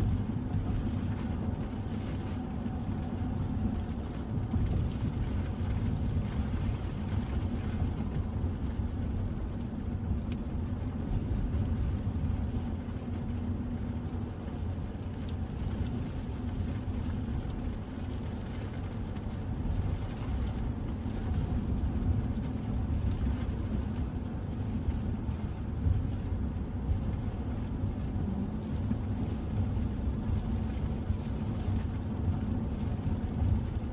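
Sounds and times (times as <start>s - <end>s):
road and engine rumble: 0.0s - 33.9s.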